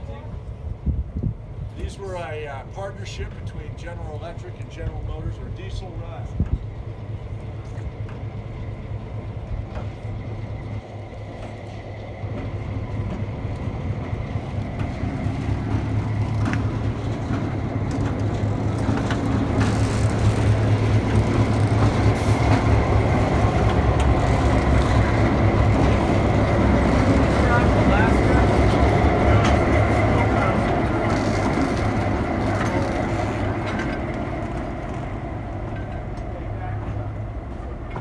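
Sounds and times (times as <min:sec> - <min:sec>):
locomotive engine rumbling: 0:00.0 - 0:38.0.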